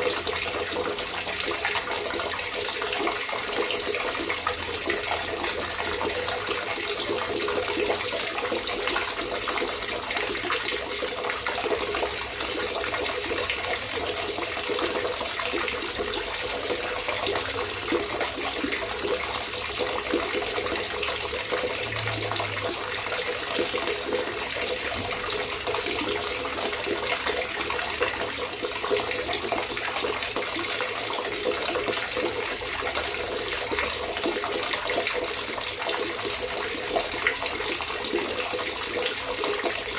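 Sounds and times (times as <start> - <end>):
water trickling and gurgling: 0.0 - 39.9.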